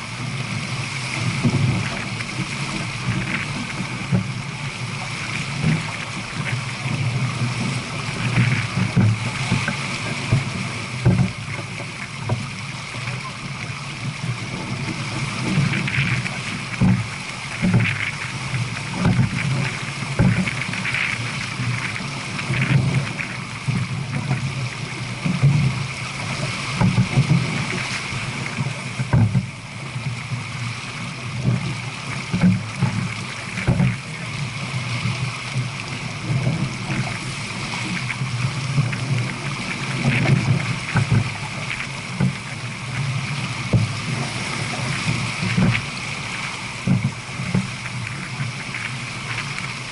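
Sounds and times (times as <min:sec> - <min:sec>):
water rushing along a hull: 0:00.0 - 0:49.9.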